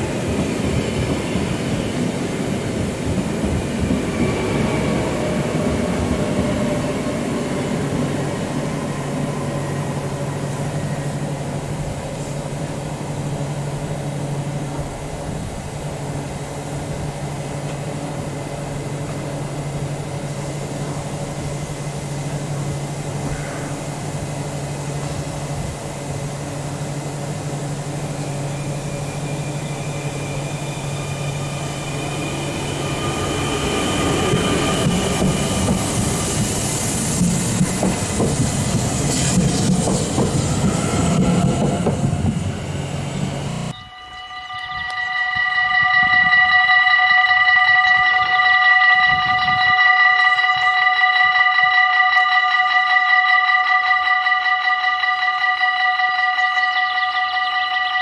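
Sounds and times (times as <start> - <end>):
train equipment humming: 0.0 - 58.0
train rolling in with whine: 0.0 - 58.0.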